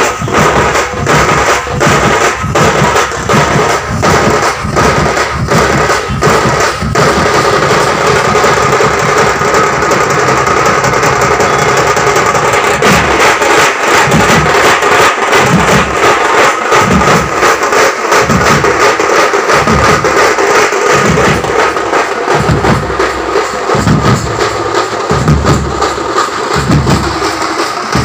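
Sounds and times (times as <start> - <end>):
bass drums beating: 0.0 - 19.0, 19.6 - 28.0
rapid drum stick strokes: 0.0 - 28.0.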